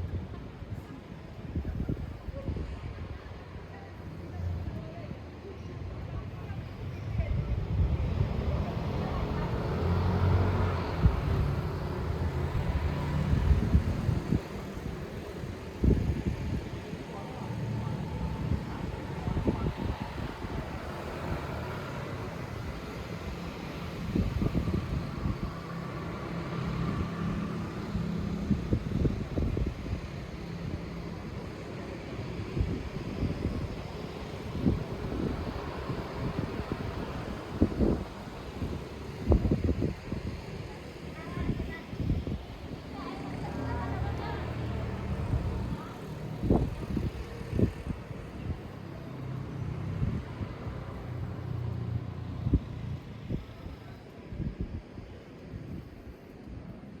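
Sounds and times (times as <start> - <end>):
wind buffeting microphone: 0.0 - 56.4.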